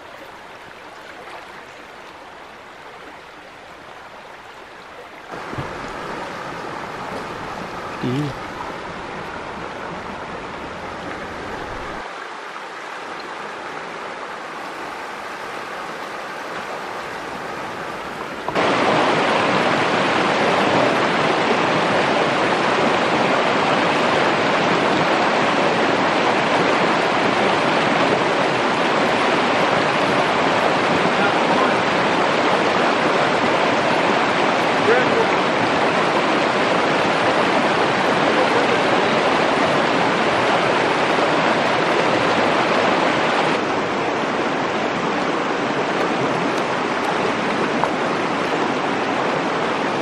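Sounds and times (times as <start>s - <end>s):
stream rushing over rocks: 0.0s - 50.0s.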